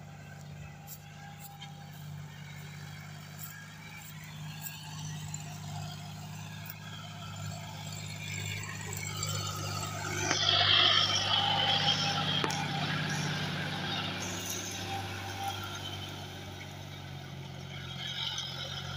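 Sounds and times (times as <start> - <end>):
tractor diesel engine under load: 0.0 - 18.9.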